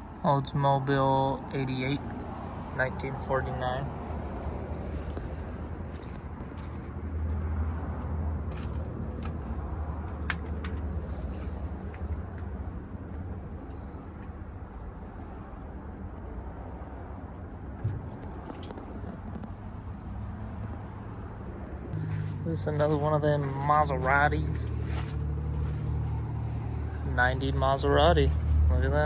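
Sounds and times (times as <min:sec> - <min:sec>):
low rumble of vehicle noise: 0:00.0 - 0:29.0.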